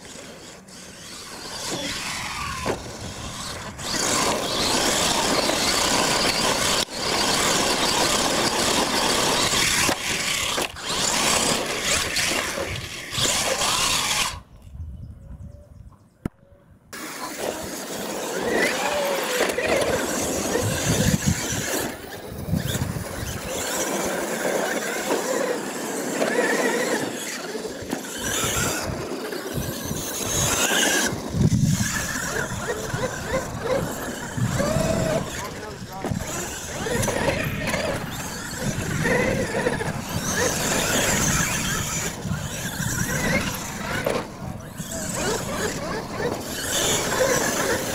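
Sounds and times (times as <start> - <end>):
toy truck motor whining: 0.0 - 14.5, 17.0 - 47.9
tyres scrabbling through dirt: 0.0 - 14.5, 17.0 - 47.9.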